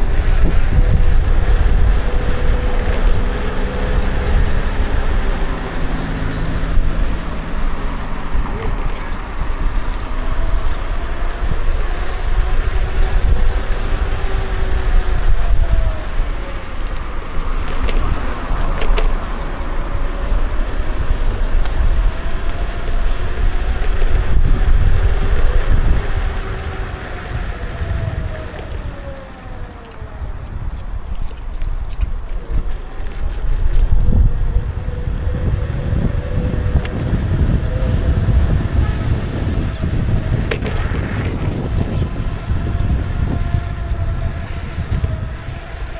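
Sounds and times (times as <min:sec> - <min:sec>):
electric motor whine: 0:00.0 - 0:45.9
wind buffeting microphone: 0:00.0 - 0:45.9.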